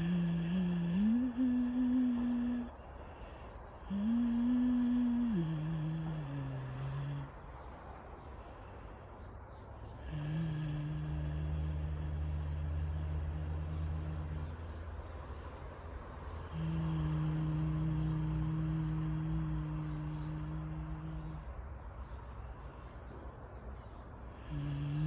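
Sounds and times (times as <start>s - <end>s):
person humming low notes: 0.0s - 2.8s, 3.8s - 7.6s, 9.9s - 23.1s, 24.1s - 25.0s.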